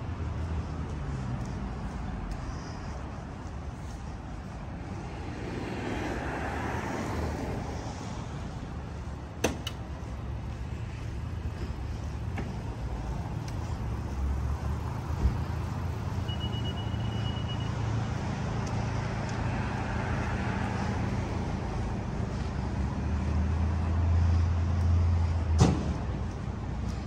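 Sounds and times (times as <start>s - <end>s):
cars passing: 0.0s - 27.0s
heavy vehicle engine rumble: 0.0s - 27.0s
low traffic rumble: 0.0s - 27.0s.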